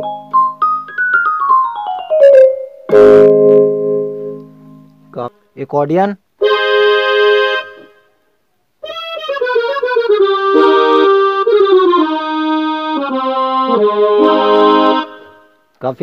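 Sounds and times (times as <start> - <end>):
electronic keyboard accordion tone: 0.0 - 4.4, 6.4 - 8.1, 8.8 - 15.6.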